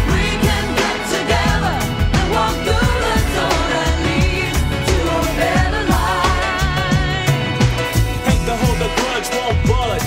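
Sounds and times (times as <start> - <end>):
pop song with drum beat: 0.0 - 10.0.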